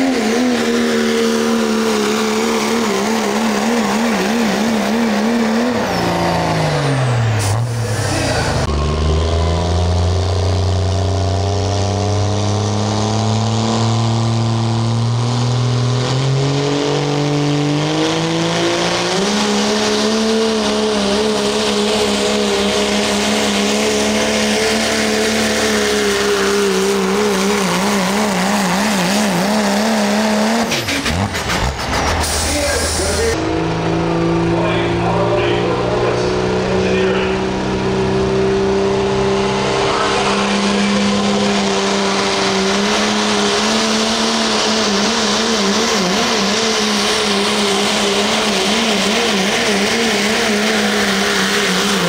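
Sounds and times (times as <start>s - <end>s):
diesel truck engine at full throttle: 0.0s - 52.0s.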